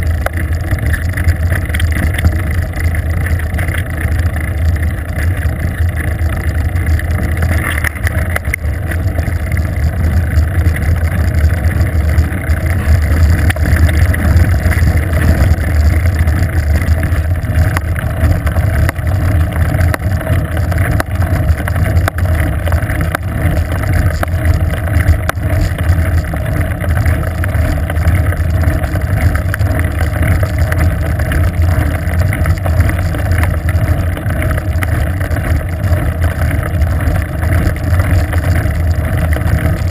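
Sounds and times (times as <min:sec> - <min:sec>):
tyre road noise on asphalt: 0:00.0 - 0:39.9.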